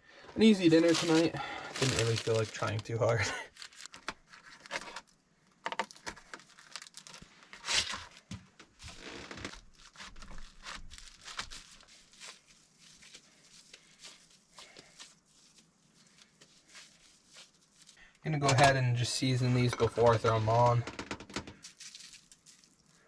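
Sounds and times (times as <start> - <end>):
plastic packaging tearing and crinkling: 0.4 - 18.0, 21.3 - 23.0.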